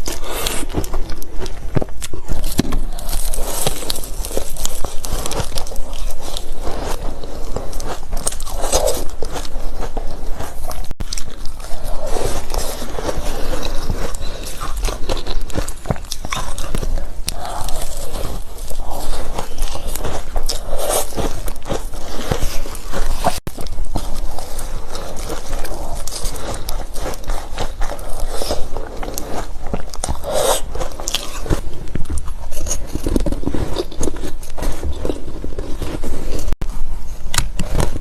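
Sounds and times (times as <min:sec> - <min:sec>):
person chewing ice: 0:00.0 - 0:38.0.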